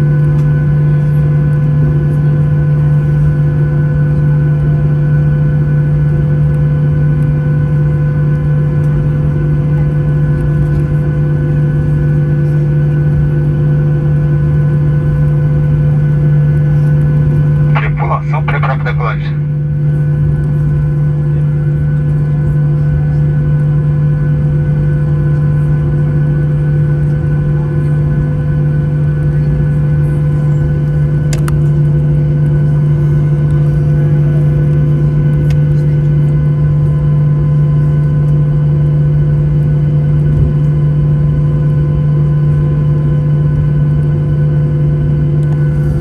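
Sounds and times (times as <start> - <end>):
airplane cabin engine drone: 0.0 - 46.0.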